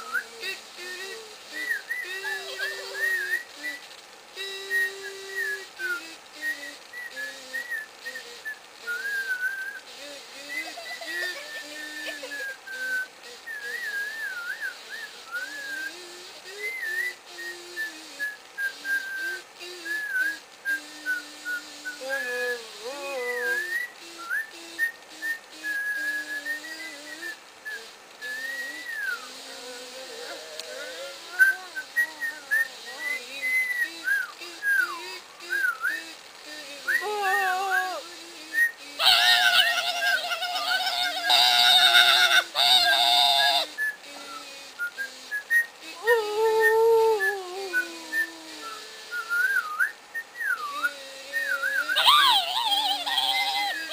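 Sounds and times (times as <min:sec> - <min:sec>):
person whistling a tune: 0:00.0 - 0:03.8, 0:04.4 - 0:09.8, 0:10.4 - 0:38.8, 0:43.8 - 0:53.9.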